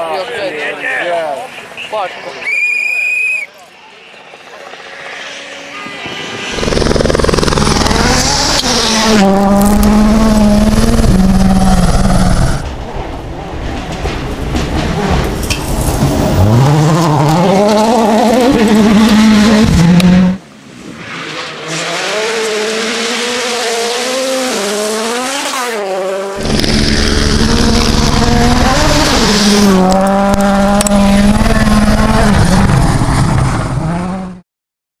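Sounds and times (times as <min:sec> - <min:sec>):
rally car engines revving: 0:04.1 - 0:13.1, 0:14.5 - 0:34.4.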